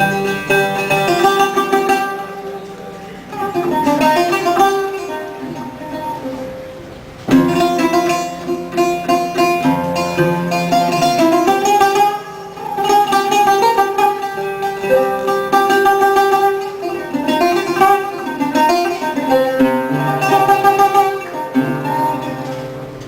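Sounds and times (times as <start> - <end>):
acoustic guitar music: 0.0 - 23.0.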